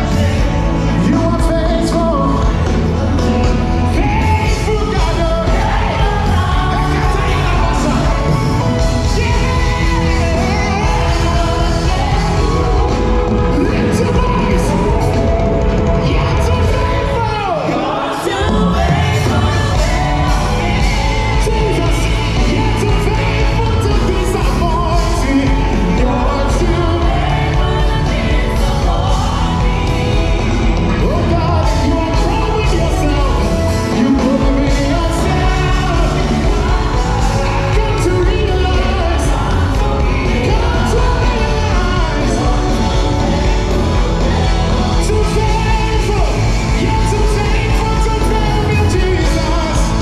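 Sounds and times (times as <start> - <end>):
gospel singers with band: 0.0 - 50.0.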